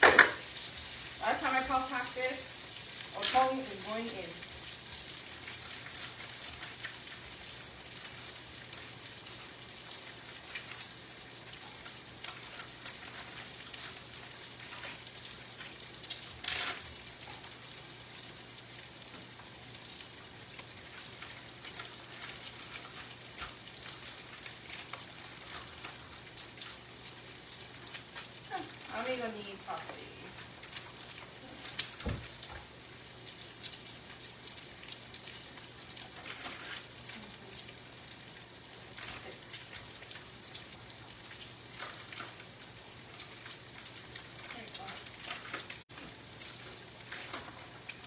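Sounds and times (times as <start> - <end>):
meat sizzling in a frying pan: 0.0 - 48.0.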